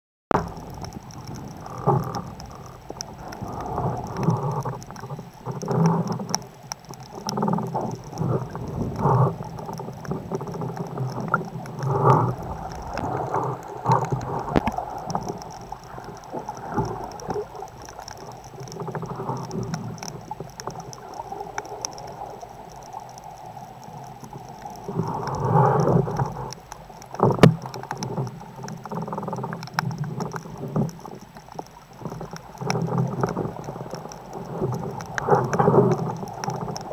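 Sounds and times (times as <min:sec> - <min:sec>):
sharp clicks: 0:00.3 - 0:36.9.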